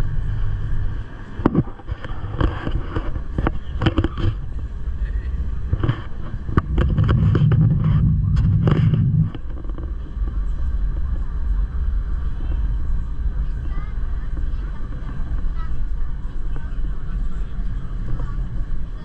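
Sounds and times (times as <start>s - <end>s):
train rumble: 0.0s - 19.0s
wheels clicking and knocking: 1.4s - 19.0s.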